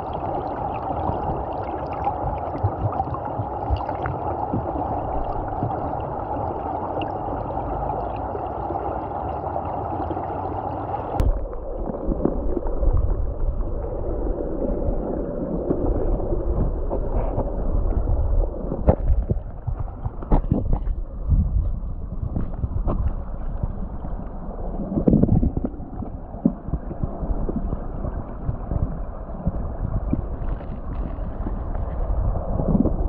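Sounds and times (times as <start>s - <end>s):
gurgling rushing water: 0.0s - 33.0s.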